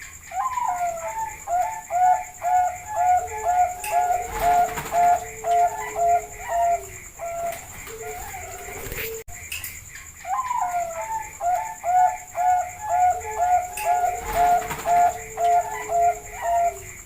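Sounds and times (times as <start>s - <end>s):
dove cooing: 0.3s - 9.3s, 10.2s - 17.0s
lower-pitched dove coo: 0.3s - 9.3s, 10.3s - 17.0s.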